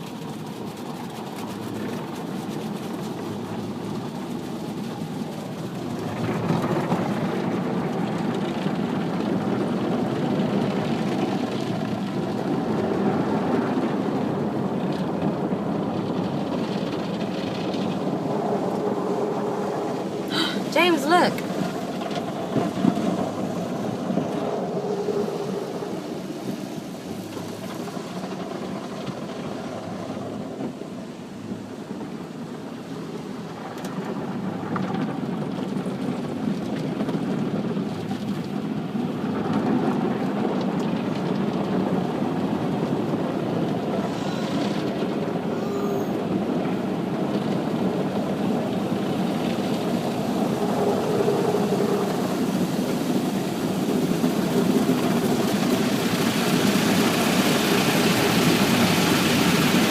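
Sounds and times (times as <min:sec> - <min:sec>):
car wash machinery rumbling: 0:00.0 - 0:59.9.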